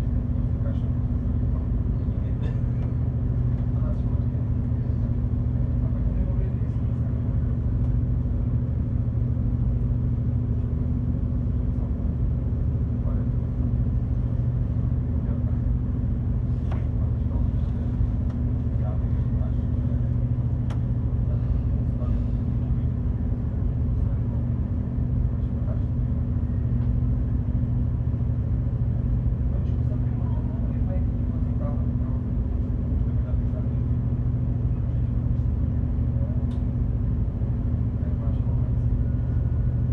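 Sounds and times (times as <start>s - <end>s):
ferry engines humming: 0.0s - 39.9s.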